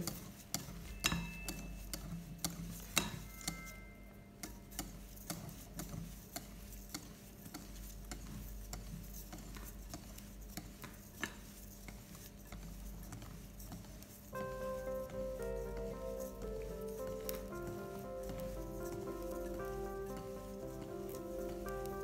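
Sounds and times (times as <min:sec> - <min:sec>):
spoon tapping mixing bowl: 0:00.0 - 0:22.0.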